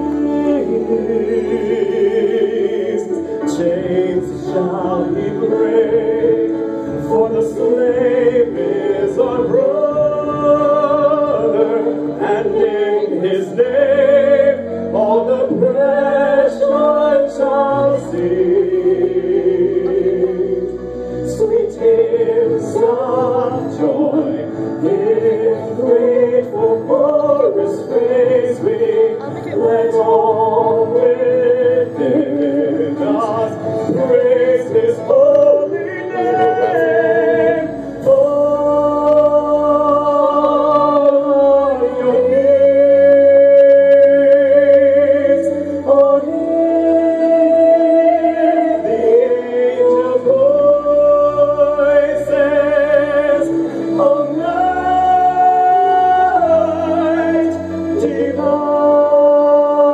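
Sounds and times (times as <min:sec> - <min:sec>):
instrumental accompaniment: 0:00.0 - 0:59.9
person singing with vibrato: 0:00.0 - 0:59.9.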